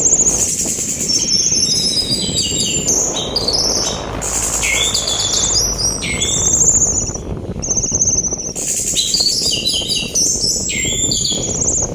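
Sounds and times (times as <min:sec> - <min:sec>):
sea wind rushing: 0:00.0 - 0:11.9.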